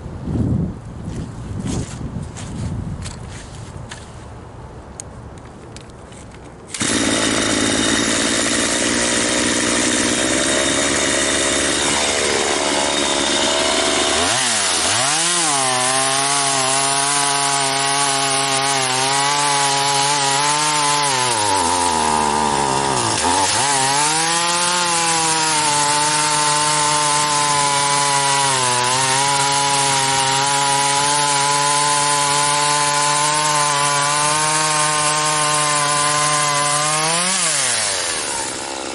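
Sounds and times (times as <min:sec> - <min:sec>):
chainsaw cutting wood: 0:06.7 - 0:38.9.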